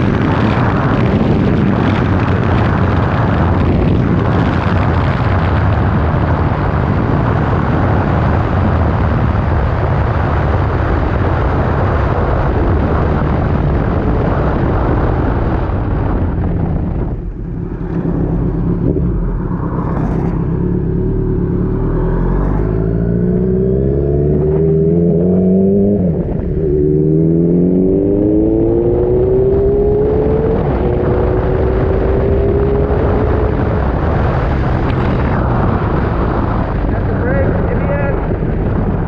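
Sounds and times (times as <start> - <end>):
motorcycle engine accelerating: 0.0 - 39.0
wind rush: 0.0 - 39.0.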